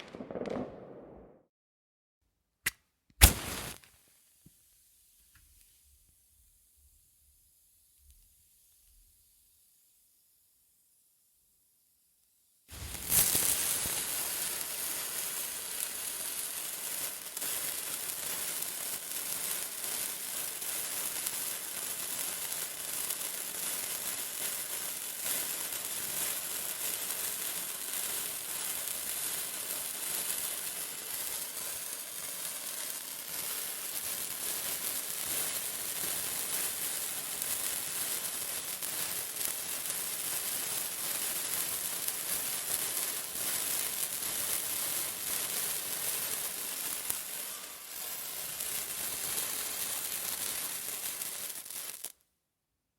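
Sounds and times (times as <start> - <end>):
fireworks crackling and hissing: 0.0 - 1.4, 3.2 - 10.4, 12.7 - 52.2.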